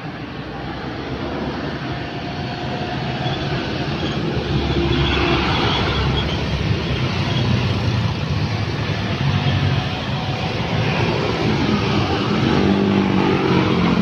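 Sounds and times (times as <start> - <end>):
engine rumble of passing traffic: 0.0 - 14.0
tyre and road noise: 0.0 - 14.0.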